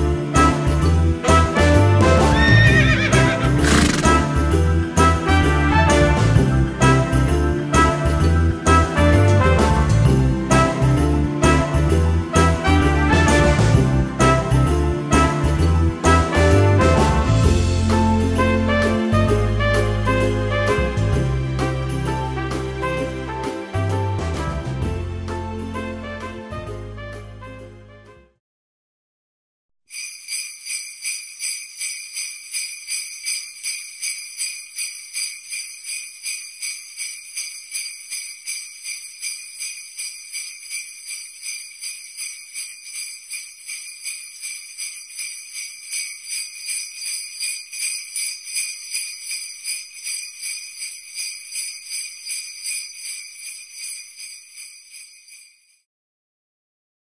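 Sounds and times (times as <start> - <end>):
sleigh bells shaking: 0.0 - 21.1, 29.9 - 55.9.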